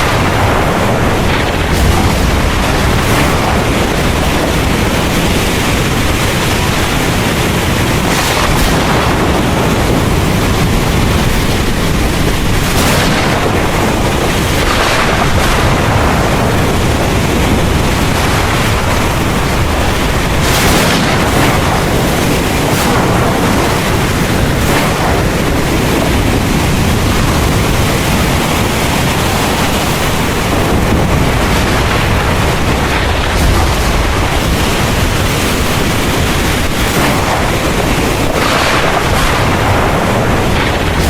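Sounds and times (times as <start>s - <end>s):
heavy rain pouring: 0.0s - 41.0s
low thunder rumble: 0.0s - 41.0s.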